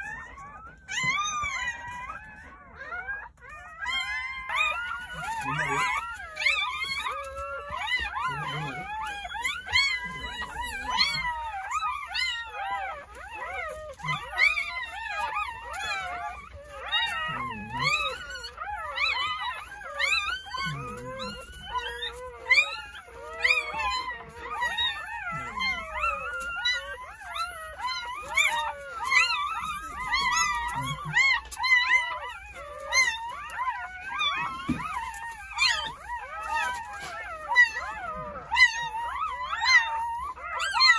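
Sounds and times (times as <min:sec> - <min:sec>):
puppies crying and squealing: 0:00.0 - 0:40.9.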